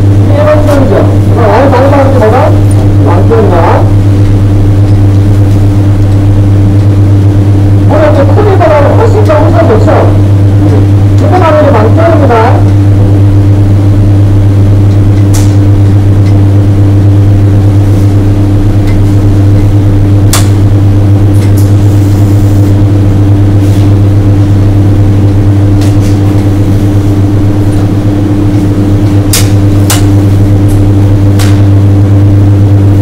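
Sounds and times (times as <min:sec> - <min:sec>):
welding arc buzzing: 0:00.0 - 0:33.0.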